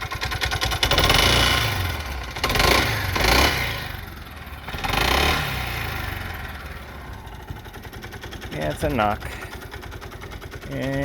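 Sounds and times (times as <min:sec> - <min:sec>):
engine knocking: 0:00.0 - 0:11.0
scooter engine revving: 0:00.0 - 0:11.0.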